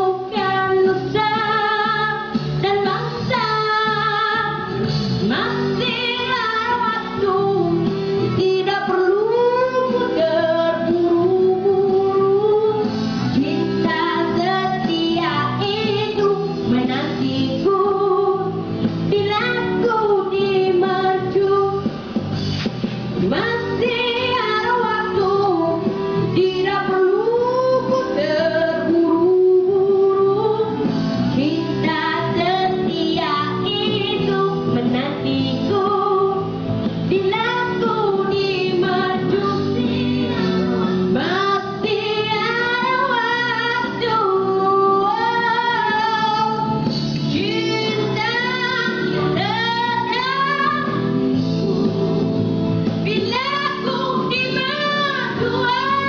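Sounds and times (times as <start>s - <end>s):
boy singing pop song: 0.0s - 22.4s, 23.2s - 56.0s
instrumental accompaniment: 0.0s - 56.0s.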